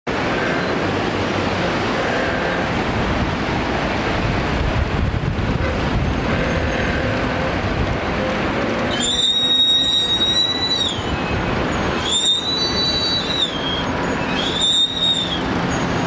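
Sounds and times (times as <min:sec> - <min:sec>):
bus engine rumble: 0:00.1 - 0:16.0
tyres on road: 0:00.1 - 0:16.0.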